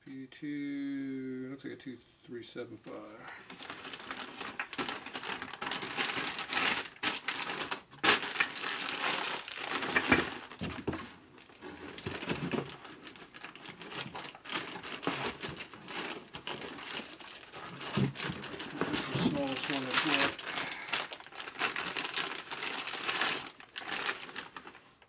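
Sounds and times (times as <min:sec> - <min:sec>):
plastic bags crinkling: 0:03.2 - 0:25.0.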